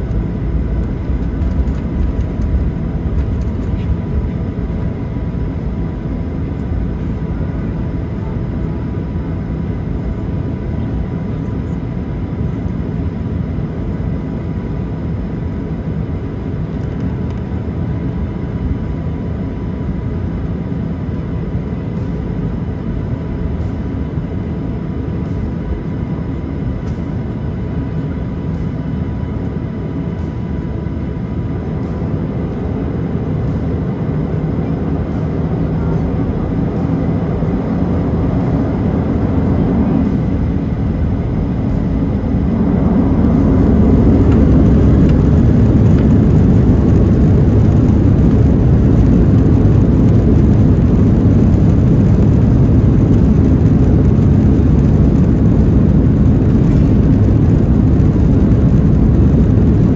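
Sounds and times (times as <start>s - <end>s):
jet engine cabin drone: 0.0s - 59.9s.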